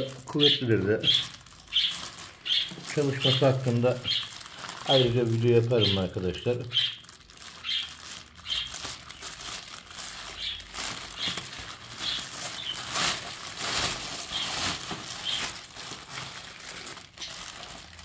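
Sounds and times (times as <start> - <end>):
plastic packaging rustling: 0.0 - 18.0.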